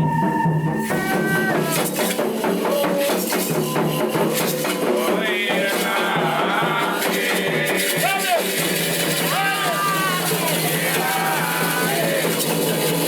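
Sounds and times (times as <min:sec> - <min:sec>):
fast hand percussion: 0:00.0 - 0:13.0
voices singing: 0:00.0 - 0:13.0.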